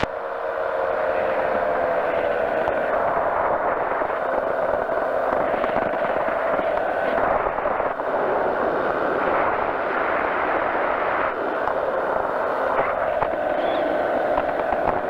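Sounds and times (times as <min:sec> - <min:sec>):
engine and propeller drone: 0:00.0 - 0:15.0.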